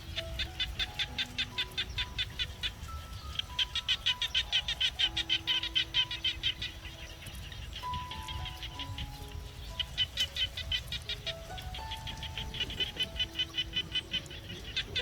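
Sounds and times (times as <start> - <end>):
bird chirping rapidly: 0.0 - 15.0
soft background music: 0.0 - 15.0.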